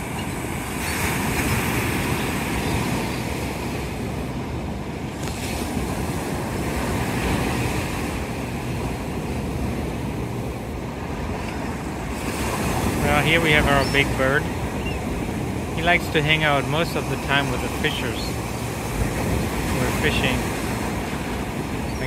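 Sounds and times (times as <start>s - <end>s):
ocean surf breaking on shore: 0.0s - 22.0s
wind buffeting microphone: 0.0s - 22.0s.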